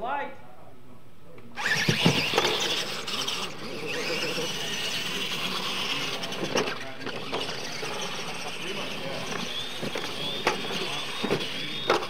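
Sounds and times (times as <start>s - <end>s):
rc trucks motor whine: 1.6s - 12.0s.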